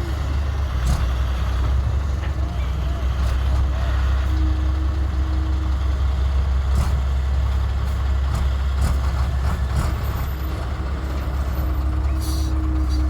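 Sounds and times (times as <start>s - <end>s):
heavy diesel engine rumbling: 0.0s - 13.0s.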